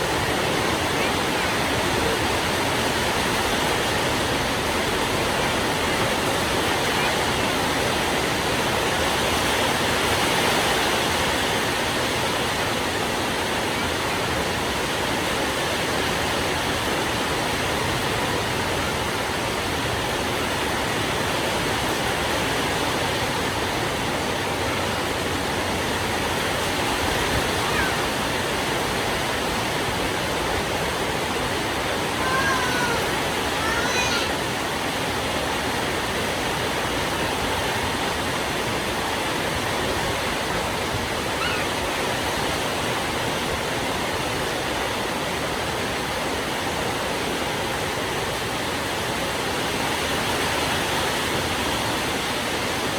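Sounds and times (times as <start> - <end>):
heavy rain falling: 0.0 - 49.2.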